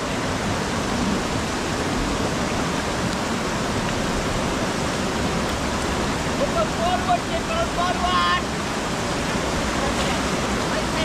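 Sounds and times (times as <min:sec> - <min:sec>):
fast river water rushing: 0:00.0 - 0:11.0
heavy rain falling: 0:00.0 - 0:11.0.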